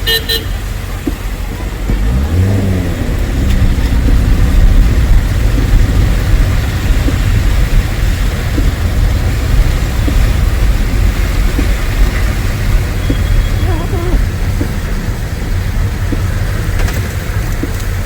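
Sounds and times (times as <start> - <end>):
deep traffic rumble: 0.0 - 18.0
vehicle engine running: 0.0 - 18.0.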